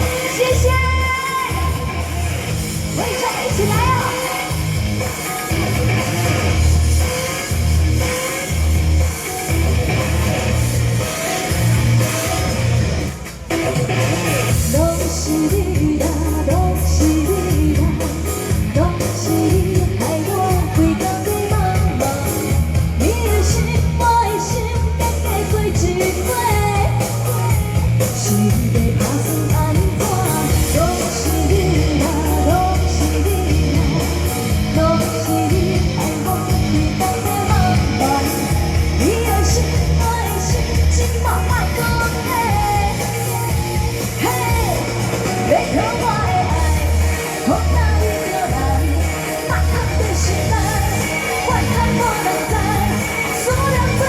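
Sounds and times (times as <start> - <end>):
woman singing pop song: 0.0 - 13.3, 14.4 - 54.0
band with guitar bass drums: 0.0 - 54.0.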